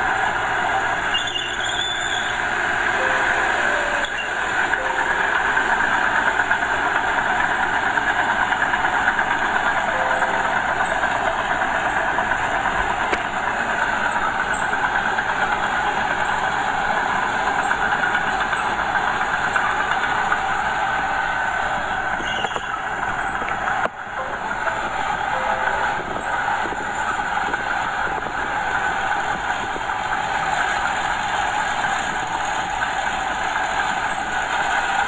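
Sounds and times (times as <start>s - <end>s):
bulldozer tracks clattering: 0.0s - 35.0s
diesel engine under load: 0.0s - 35.0s.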